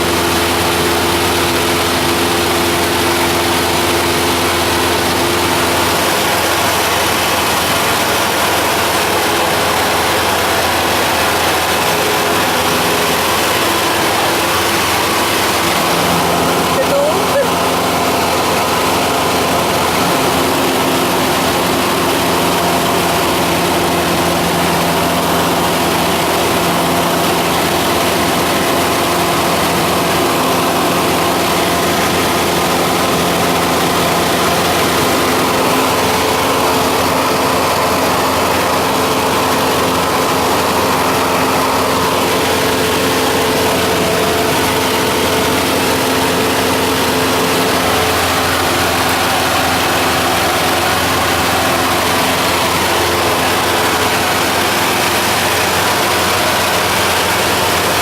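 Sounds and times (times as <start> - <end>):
airplane engine and propeller droning: 0.0 - 58.0
broad rush of noise: 0.0 - 58.0.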